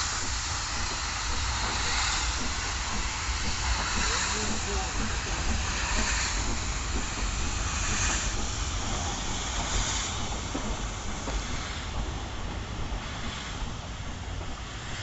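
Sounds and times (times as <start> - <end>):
low locomotive rumble: 0.0 - 15.0
steam hissing from locomotive: 0.0 - 15.0.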